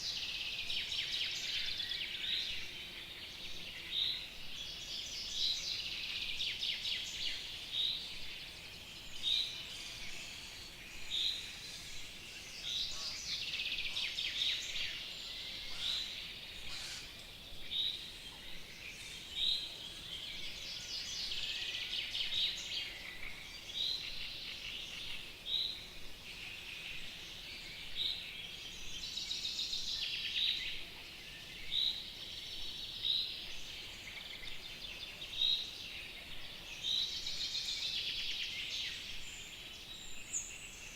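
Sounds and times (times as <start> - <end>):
birds twittering and trilling: 0.0 - 40.9
faint outdoor hiss: 0.0 - 40.9.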